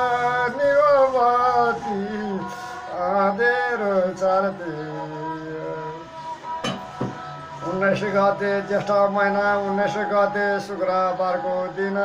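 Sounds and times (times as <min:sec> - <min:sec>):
man singing folk melody: 0:00.0 - 0:06.1, 0:07.6 - 0:12.0.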